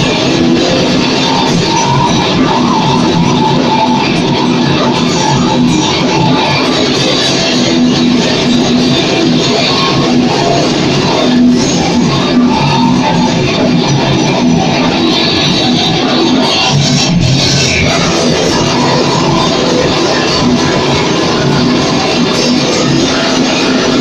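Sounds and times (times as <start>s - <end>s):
metal band playing: 0.0s - 24.0s.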